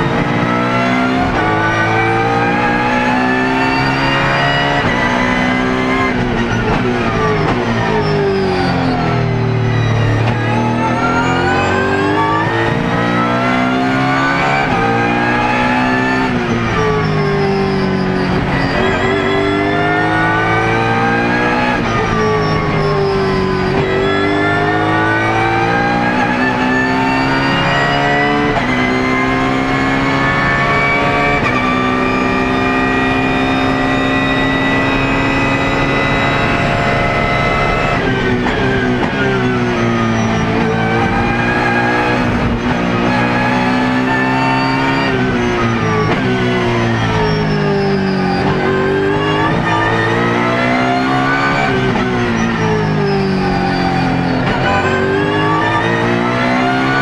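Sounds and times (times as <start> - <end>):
racing car engine accelerating: 0.0 - 57.0.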